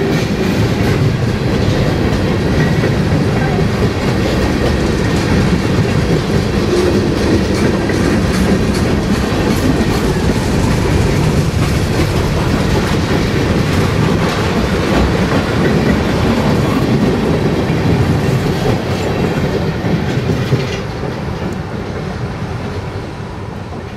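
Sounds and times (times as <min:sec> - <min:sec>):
train wheels rumbling on rail: 0:00.0 - 0:23.9.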